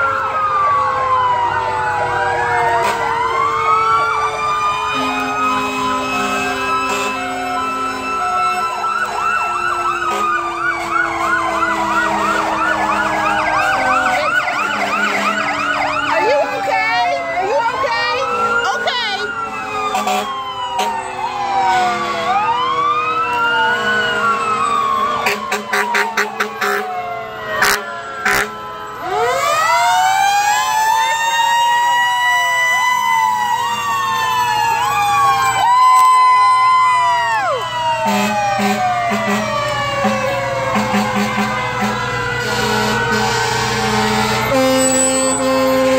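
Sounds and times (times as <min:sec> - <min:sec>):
electronic siren yelping: 0:00.0 - 0:45.9
steady siren tone falling in pitch: 0:00.0 - 0:45.9.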